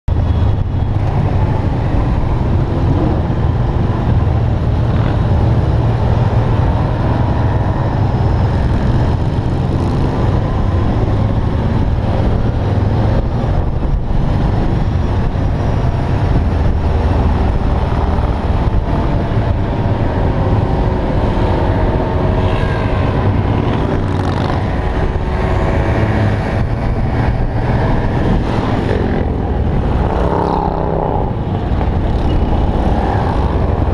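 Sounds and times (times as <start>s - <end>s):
motorcycles riding past: 0.4s - 33.9s.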